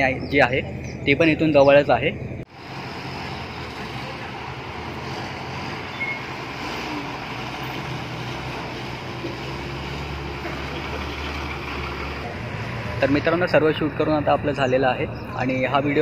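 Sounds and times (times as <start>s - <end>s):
bus engine humming: 0.0s - 16.0s.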